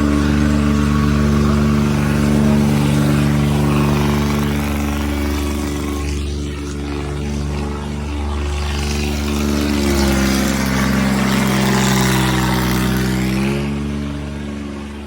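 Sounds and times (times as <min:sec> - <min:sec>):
diesel tractor engines under load: 0:00.0 - 0:15.0.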